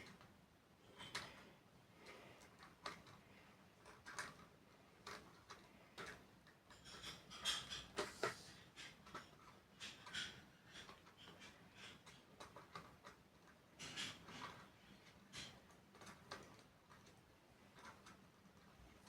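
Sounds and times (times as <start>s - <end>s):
clicks and rustles: 0.0s - 19.0s.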